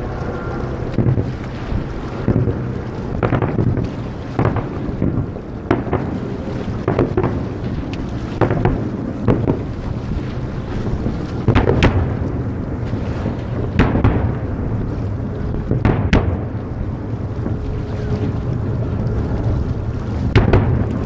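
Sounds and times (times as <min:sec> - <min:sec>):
constant low rumble: 0:00.0 - 0:21.0.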